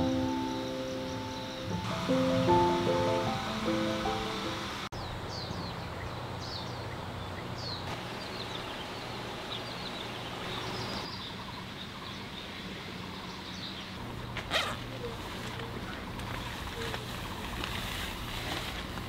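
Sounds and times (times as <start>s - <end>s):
small birds chirping: 0.0s - 18.3s.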